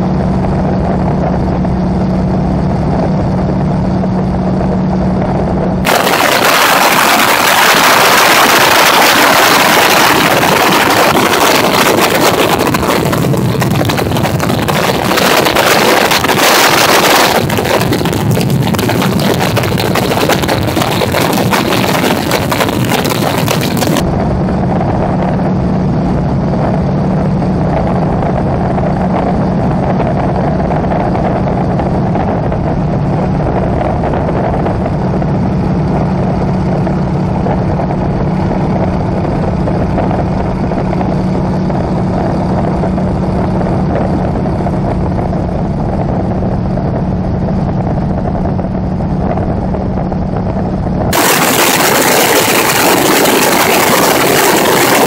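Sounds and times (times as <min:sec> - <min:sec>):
propeller aircraft engine droning: 0:00.0 - 0:55.0
wind rush: 0:00.0 - 0:55.0.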